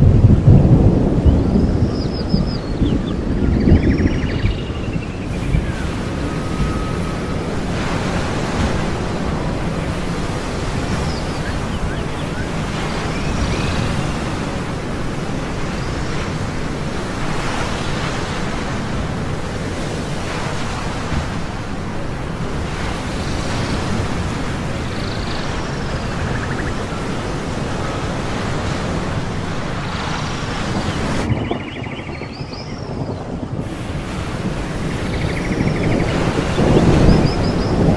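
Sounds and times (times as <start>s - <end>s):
ocean waves breaking: 0.0s - 32.2s, 32.9s - 37.9s.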